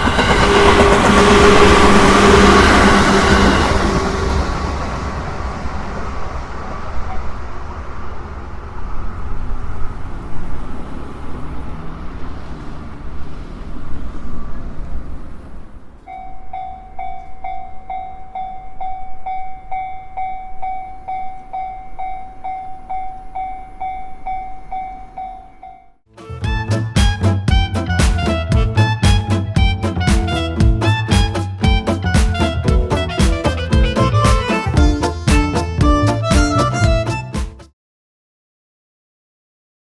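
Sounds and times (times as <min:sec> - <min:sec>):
train rumbling: 0:00.0 - 0:25.6, 0:26.3 - 0:37.4.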